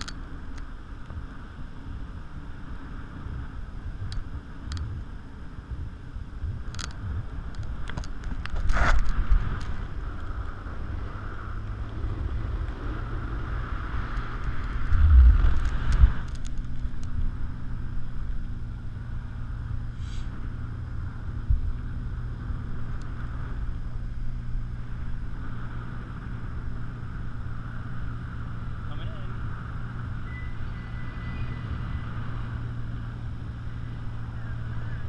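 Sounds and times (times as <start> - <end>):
wind buffeting microphone: 0.0 - 28.8
steady low hum: 0.0 - 35.0.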